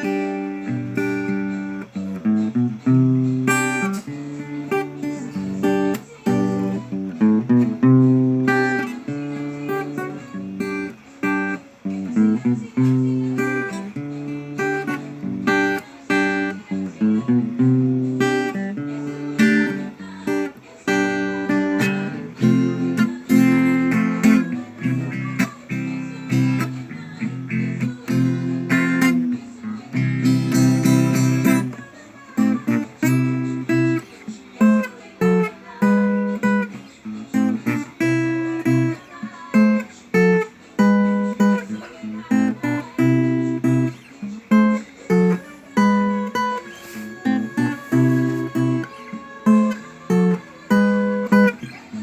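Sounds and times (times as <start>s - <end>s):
acoustic guitar chords ringing: 0.0s - 52.0s.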